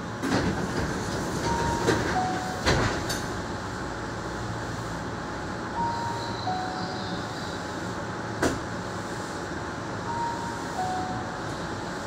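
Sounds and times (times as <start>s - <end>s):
hum of equipment and ventilation: 0.0s - 12.0s.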